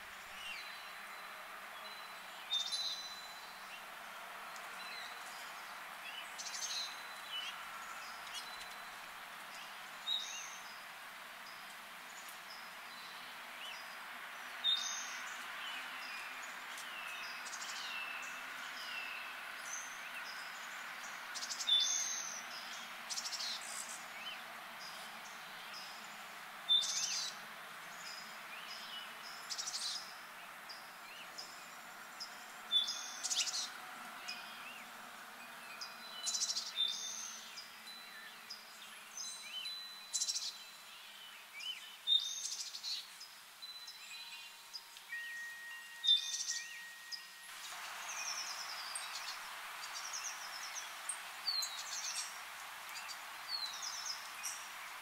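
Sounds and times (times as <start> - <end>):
quiet bird chirps: 0.0 - 55.0
steady background hiss: 0.0 - 55.0.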